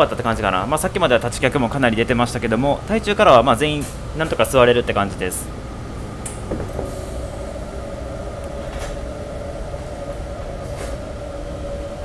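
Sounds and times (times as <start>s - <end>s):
train cabin rumble and whine: 0.0s - 12.0s.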